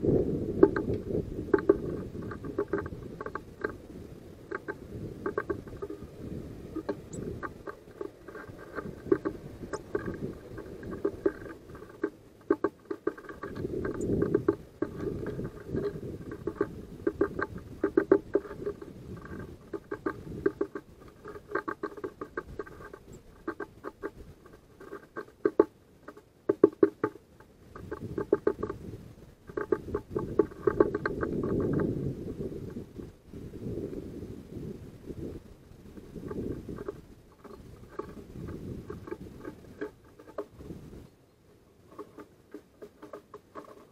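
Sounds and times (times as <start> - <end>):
bird pecking seed on wood: 0.6 - 33.1, 35.9 - 43.9.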